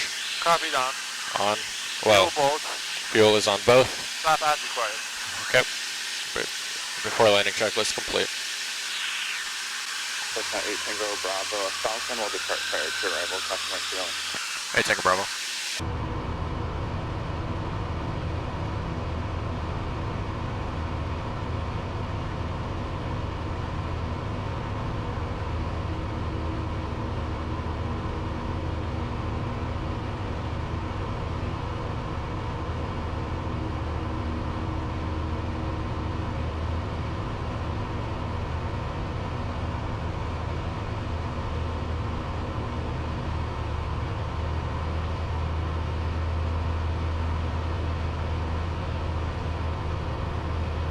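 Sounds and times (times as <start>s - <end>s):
aircraft engine and propeller droning: 0.0s - 50.9s.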